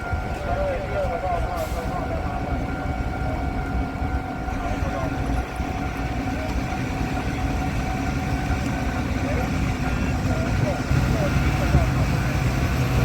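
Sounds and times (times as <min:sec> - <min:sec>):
engine low rumble with whine: 0:00.0 - 0:13.0.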